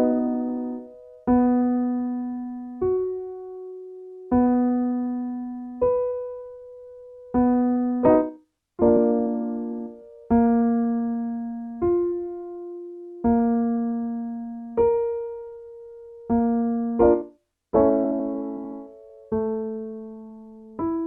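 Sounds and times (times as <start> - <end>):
piano notes ringing: 0.0 - 21.0.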